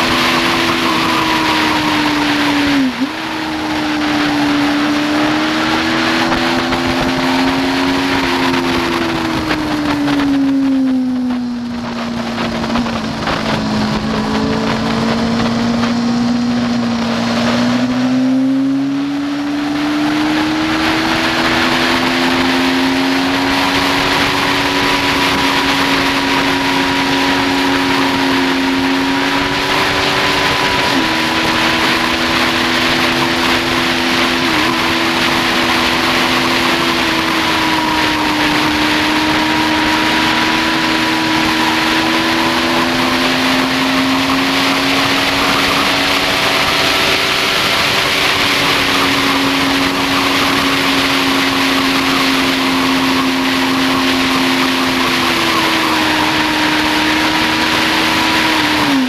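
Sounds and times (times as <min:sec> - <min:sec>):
motorcycle engine at high revs: 0:00.0 - 0:59.0
wind rushing: 0:00.0 - 0:59.0.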